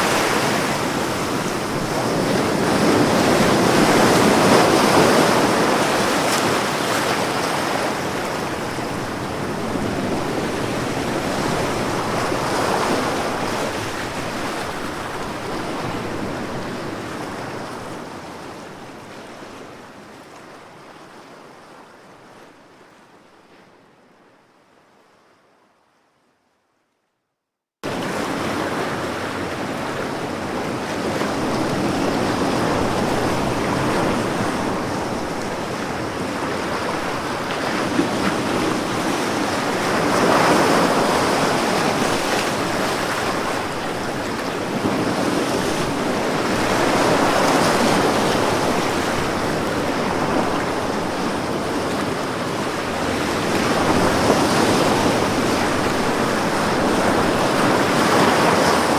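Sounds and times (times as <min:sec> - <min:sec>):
ocean waves washing onto shore: 0:00.0 - 0:20.7, 0:27.8 - 0:58.9.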